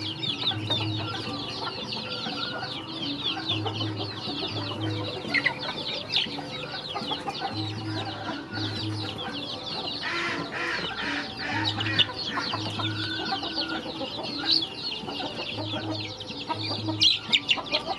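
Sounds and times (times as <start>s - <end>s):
chicks and ducklings peeping: 0.0s - 17.9s.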